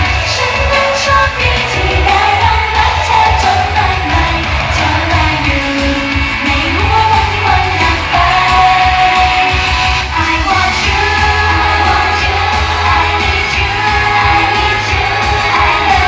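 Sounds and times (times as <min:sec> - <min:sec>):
heavy pulsing bass beat: 0:00.0 - 0:16.0
pop song with singing: 0:00.0 - 0:16.0.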